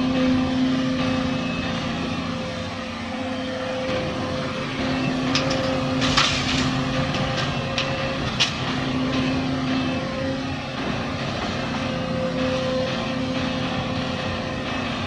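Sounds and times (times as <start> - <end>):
diesel machinery running: 0.0 - 15.0.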